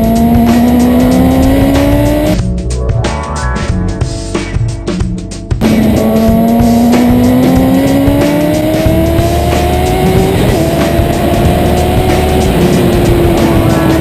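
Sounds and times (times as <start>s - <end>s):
motorcycle engine accelerating: 0.0s - 4.3s, 5.6s - 14.0s
music: 0.0s - 14.0s.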